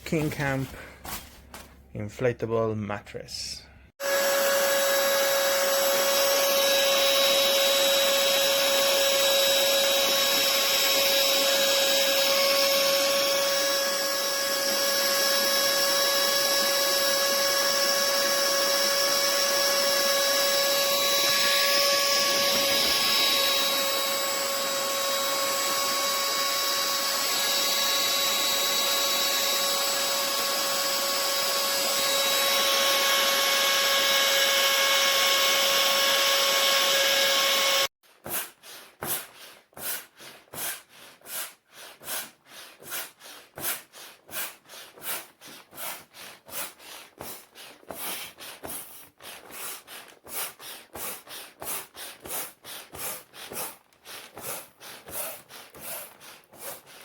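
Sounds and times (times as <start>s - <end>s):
electric air pump whining: 4.0s - 37.9s, 42.8s - 57.0s.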